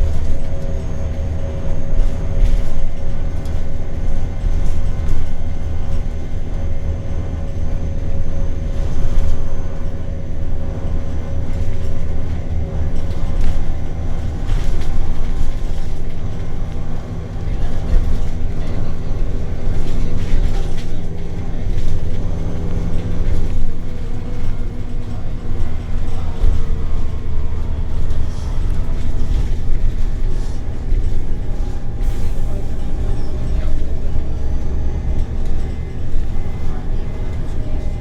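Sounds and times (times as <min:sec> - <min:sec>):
bus engine drone from inside: 0:00.0 - 0:38.0.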